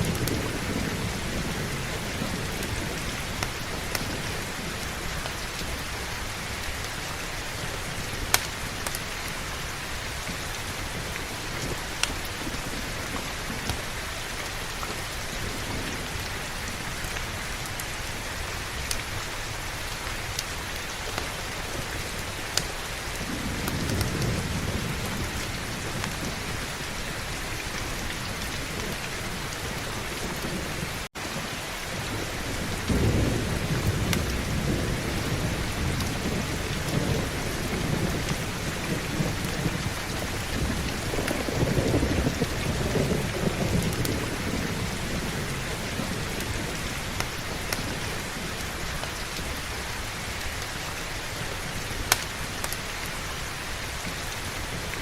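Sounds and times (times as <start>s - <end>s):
thunder rumbling: 0.0s - 50.6s
heavy rain: 0.0s - 55.0s.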